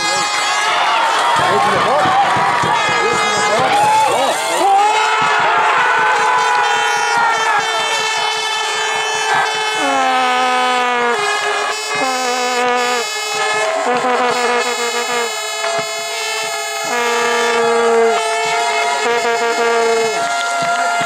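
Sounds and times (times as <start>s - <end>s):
air horn blasts: 0.0s - 21.0s.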